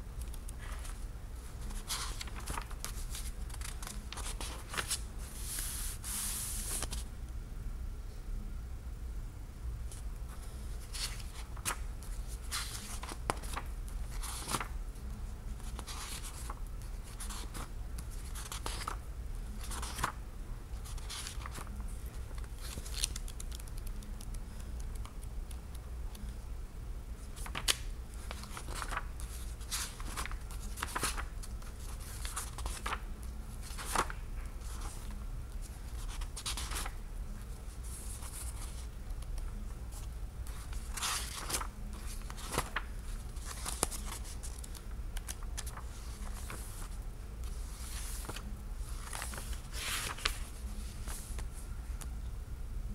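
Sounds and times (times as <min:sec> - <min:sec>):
book pages turning: 0:00.2 - 0:07.1, 0:10.4 - 0:14.8, 0:15.5 - 0:19.0, 0:19.6 - 0:20.2, 0:20.8 - 0:26.3, 0:27.3 - 0:33.0, 0:33.6 - 0:37.0, 0:37.8 - 0:51.6.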